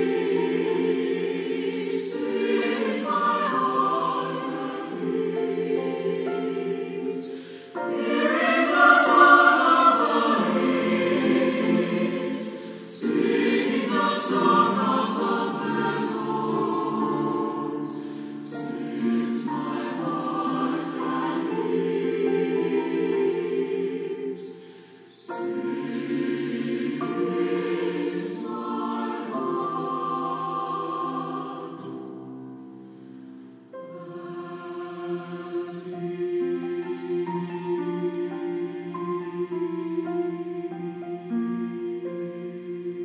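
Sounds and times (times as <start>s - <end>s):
piano accompaniment: 0.0s - 24.6s, 25.3s - 43.0s
choir singing: 0.0s - 43.0s.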